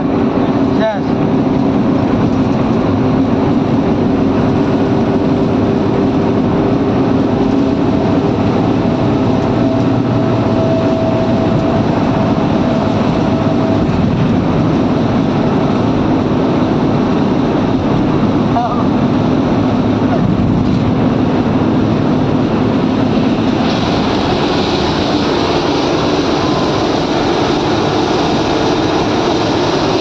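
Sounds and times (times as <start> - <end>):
road noise: 0.0 - 30.0
vehicle engine drone: 0.0 - 30.0.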